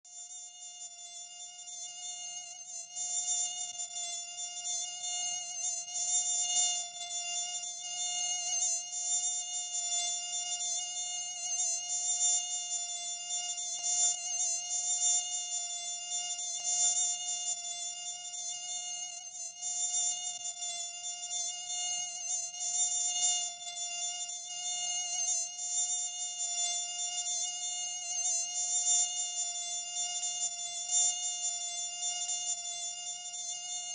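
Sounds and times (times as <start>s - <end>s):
mosquito buzzing: 0.1s - 33.9s.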